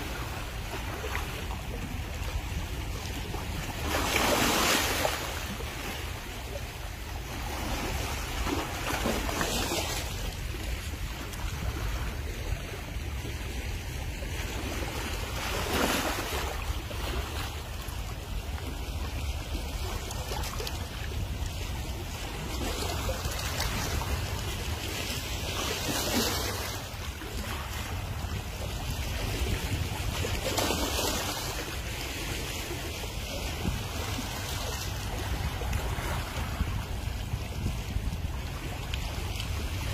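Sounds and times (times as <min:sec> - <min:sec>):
waves lapping over rocks: 0:00.0 - 0:39.9
wind rumble on microphone: 0:00.0 - 0:39.9.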